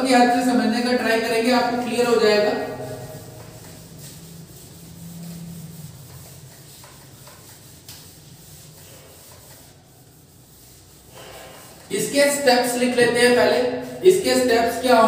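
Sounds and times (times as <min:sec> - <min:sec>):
eraser rubbing on whiteboard: 0:01.0 - 0:15.0.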